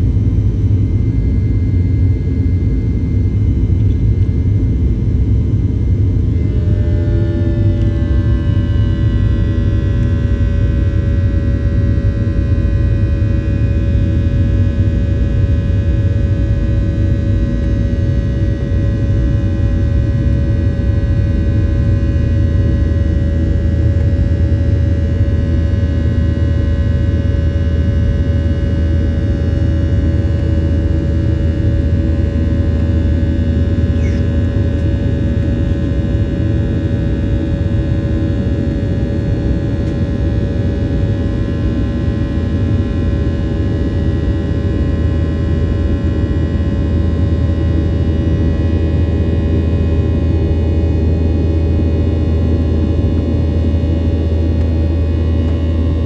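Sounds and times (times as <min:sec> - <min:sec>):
fan hum: 0:00.0 - 0:56.0
jet engine low rumble: 0:00.0 - 0:56.0.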